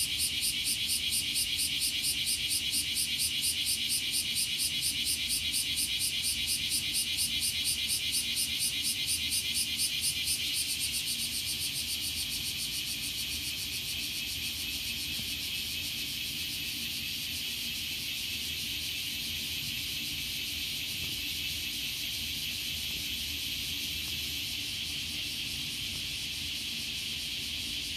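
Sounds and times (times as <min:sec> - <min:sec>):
cicadas buzzing: 0:00.0 - 0:27.9.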